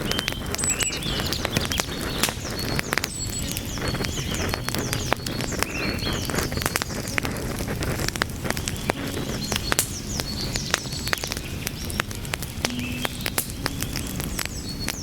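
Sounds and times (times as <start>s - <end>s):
fire popping and snapping: 0.0s - 15.0s
low rumble of flames: 0.0s - 15.0s
wood fire crackling: 0.0s - 15.0s.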